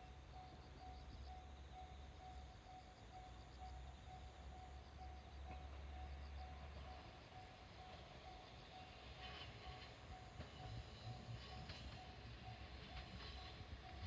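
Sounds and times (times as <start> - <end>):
faint insects chirping: 0.0 - 14.0.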